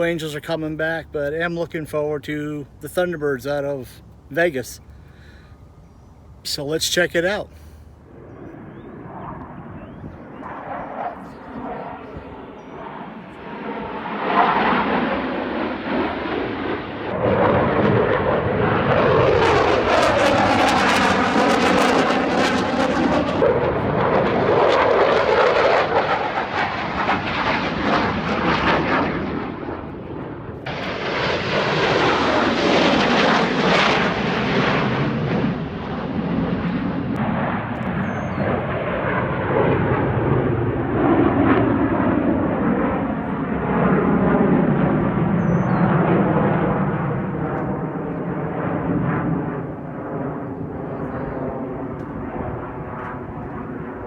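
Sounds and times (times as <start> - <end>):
aircraft engines roaring overhead: 0.0 - 54.0.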